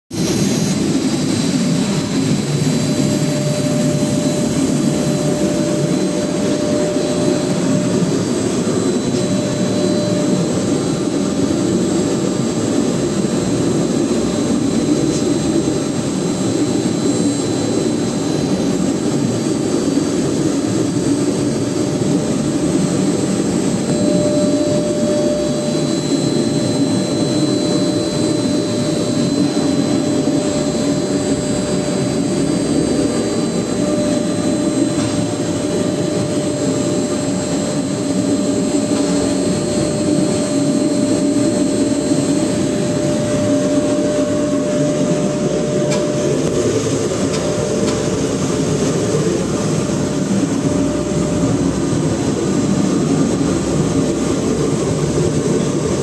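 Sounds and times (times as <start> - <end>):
faint machine whine: 0.2 - 56.0
polishing machine whirring: 0.2 - 56.0.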